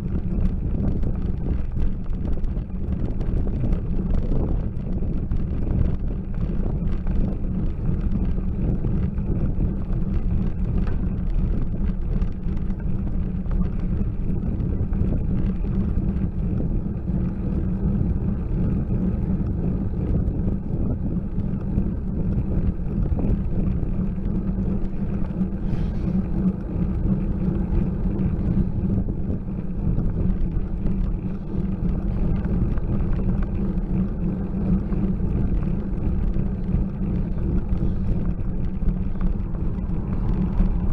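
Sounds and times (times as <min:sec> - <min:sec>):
road vibration rumble: 0:00.0 - 0:40.9
wind buffeting microphone: 0:00.0 - 0:40.9.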